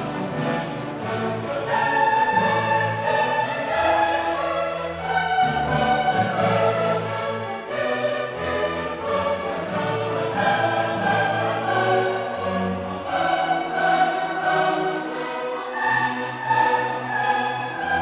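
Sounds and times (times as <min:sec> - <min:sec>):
choir singing with orchestra: 0:00.0 - 0:18.0.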